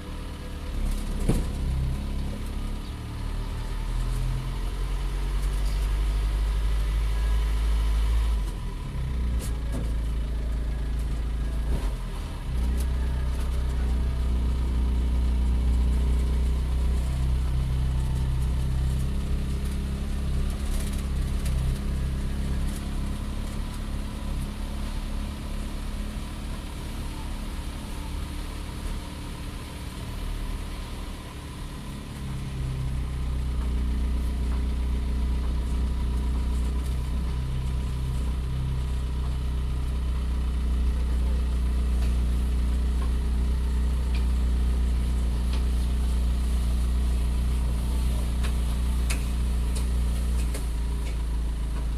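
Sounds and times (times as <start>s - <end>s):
engine humming: 0.0s - 51.9s.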